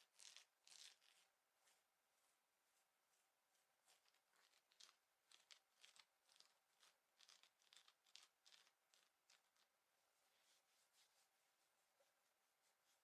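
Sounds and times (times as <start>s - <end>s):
scratching on fabric: 0.0s - 13.0s.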